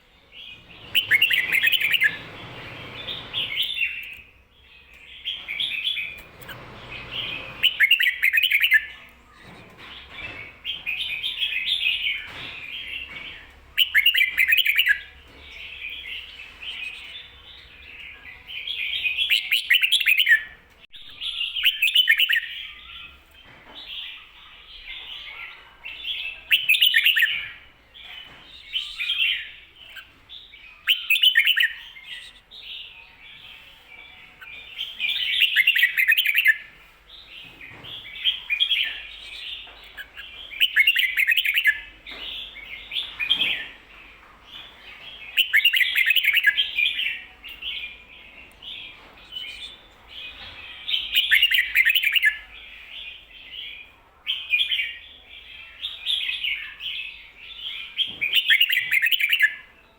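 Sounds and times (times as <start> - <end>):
bulbul singing: 0.0 - 59.9.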